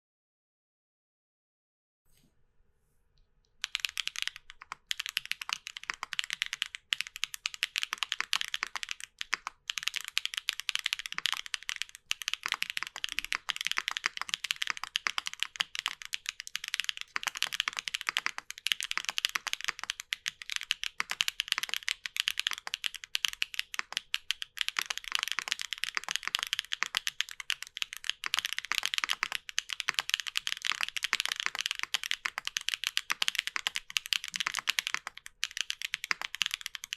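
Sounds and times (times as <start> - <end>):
fast mechanical keyboard typing: 3.6 - 36.9.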